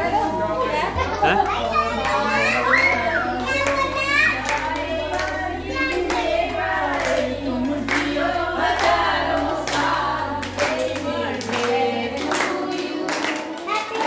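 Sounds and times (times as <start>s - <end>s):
music with steady bass line: 0.0s - 12.9s
adults and children singing: 0.0s - 14.0s
people clapping along: 1.3s - 14.0s.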